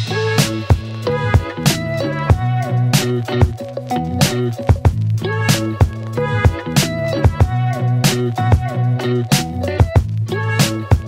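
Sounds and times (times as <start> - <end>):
upbeat instrumental music: 0.0 - 11.0.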